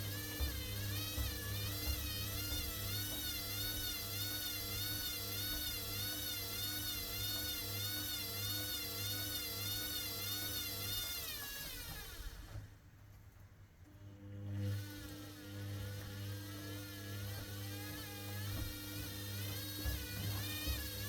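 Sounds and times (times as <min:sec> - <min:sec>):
washer-dryer drum motor whining: 0:00.0 - 0:12.9, 0:13.8 - 0:21.0.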